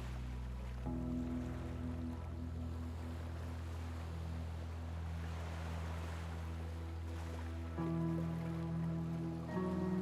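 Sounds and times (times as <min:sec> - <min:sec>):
sea waves: 0:00.0 - 0:10.0
soft background music: 0:00.0 - 0:10.0.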